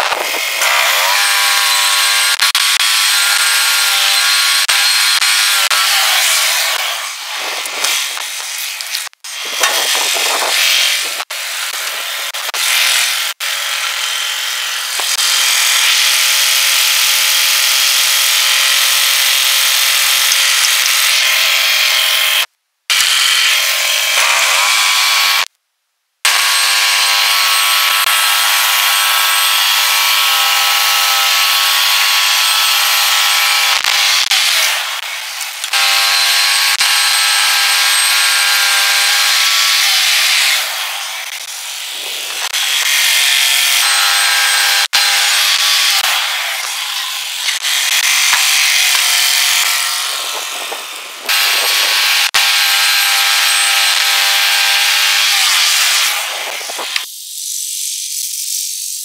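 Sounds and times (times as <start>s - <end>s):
band sawmill sawing log: 0.0s - 25.5s, 26.3s - 57.1s.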